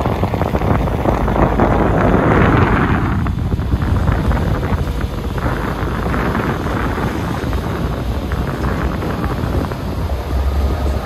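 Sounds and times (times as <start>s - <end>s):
ferry low rumble: 0.0s - 11.0s
wind buffeting microphone: 0.0s - 11.0s.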